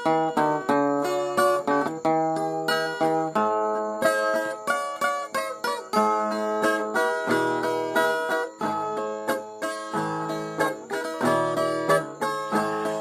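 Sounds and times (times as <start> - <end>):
plucked folk guitar: 0.0 - 13.0.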